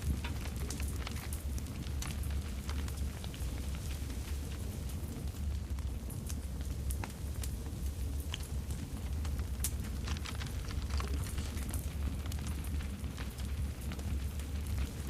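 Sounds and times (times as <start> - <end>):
campfire crackles and pops: 0.0 - 15.0
low fire rumble: 0.0 - 15.0.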